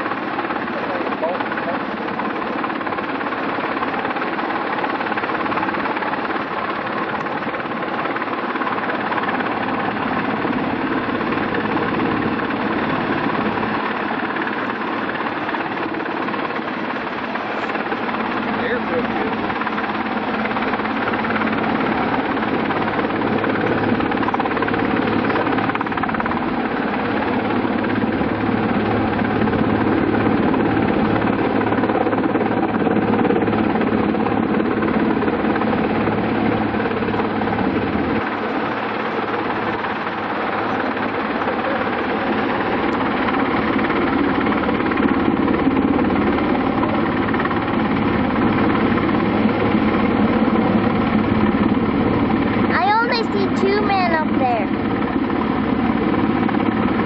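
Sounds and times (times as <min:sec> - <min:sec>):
helicopter hovering: 0:00.0 - 0:57.0.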